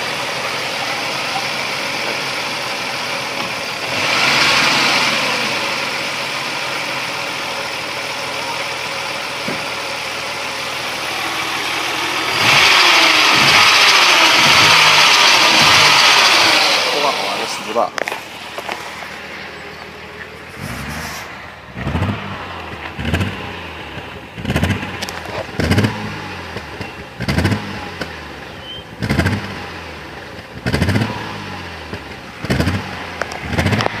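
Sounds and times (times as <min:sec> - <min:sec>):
car engine misfiring and surging: 0:00.0 - 0:34.0.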